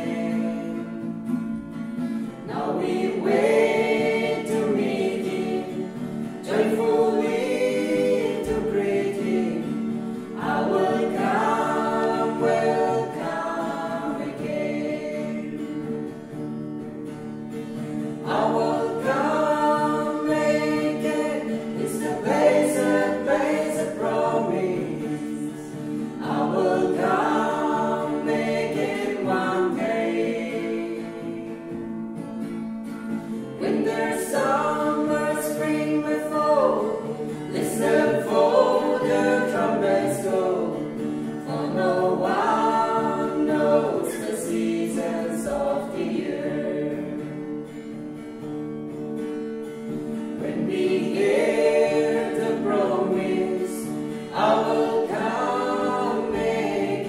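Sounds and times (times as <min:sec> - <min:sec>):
group singing gospel in harmony: 0:00.0 - 0:48.0, 0:49.8 - 0:57.0
acoustic guitar: 0:00.0 - 0:57.0.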